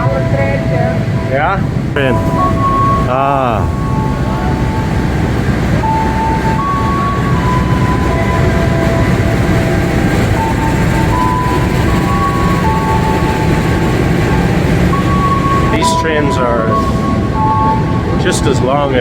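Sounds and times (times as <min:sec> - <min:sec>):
high tones stepping in pitch: 0:00.0 - 0:19.0
train rolling with heavy rumble: 0:00.0 - 0:19.0.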